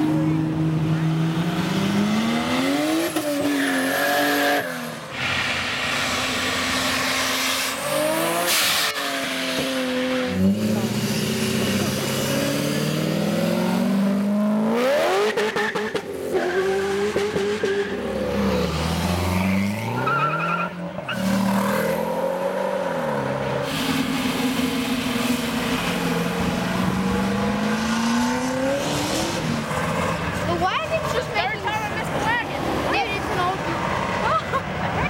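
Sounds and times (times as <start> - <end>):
car engines revving and accelerating: 0.0 - 35.0.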